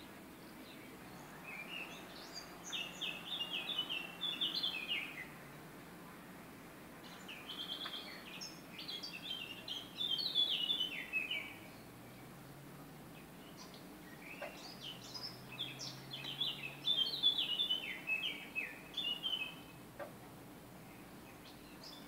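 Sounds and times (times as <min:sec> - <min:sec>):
faint background hiss: 0:00.0 - 0:22.0
songbird singing: 0:00.0 - 0:22.0.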